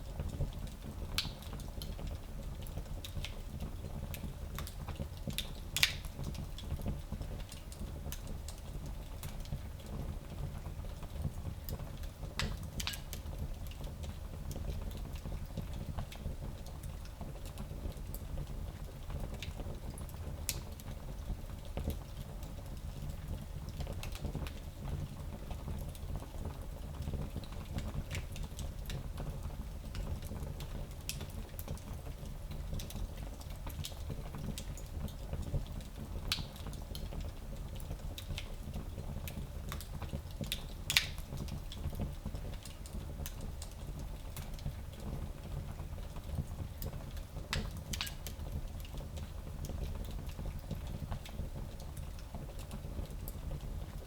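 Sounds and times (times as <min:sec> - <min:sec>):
low rumble of flames: 0:00.0 - 0:54.0
fire crackling and popping: 0:00.2 - 0:54.0.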